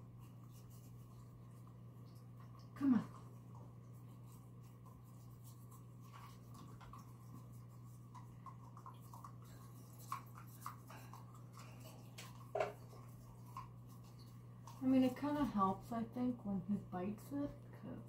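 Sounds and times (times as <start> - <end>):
toothbrush scraping dog's teeth: 0.0 - 2.4, 3.1 - 16.2
low electrical hum: 0.0 - 18.0.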